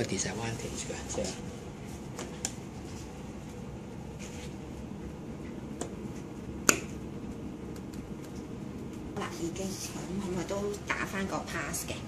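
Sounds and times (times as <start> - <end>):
low hum of running equipment: 0.0 - 12.0.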